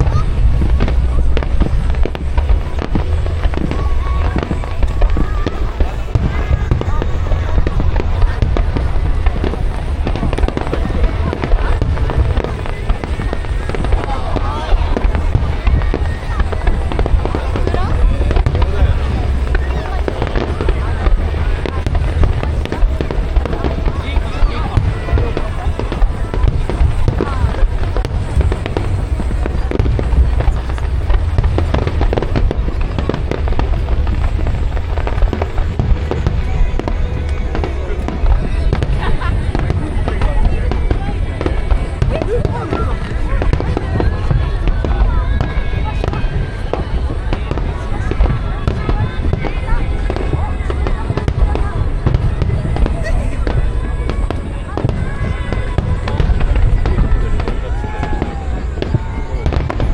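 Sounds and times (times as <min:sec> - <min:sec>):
fireworks cracks and bangs: 0:00.0 - 0:59.9
low rumble: 0:00.0 - 0:59.9.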